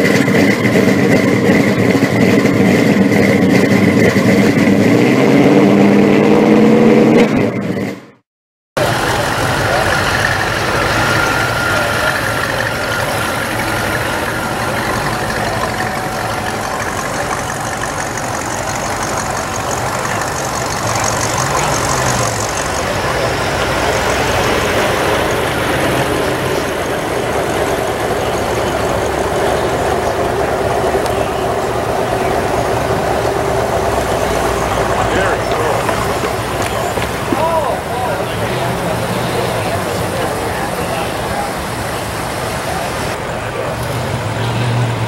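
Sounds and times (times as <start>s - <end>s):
car engines idling: 0.0s - 8.2s, 8.8s - 45.0s.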